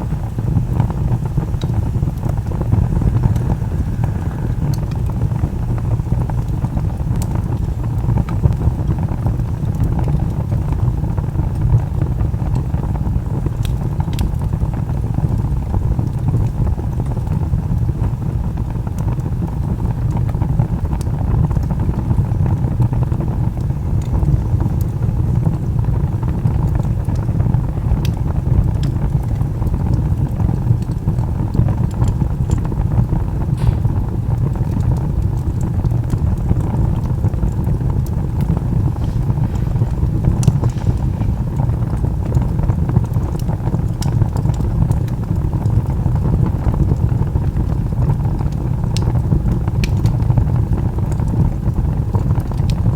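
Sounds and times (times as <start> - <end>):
burning logs crackling: 0.0 - 52.9
fire low rumble: 0.0 - 52.9.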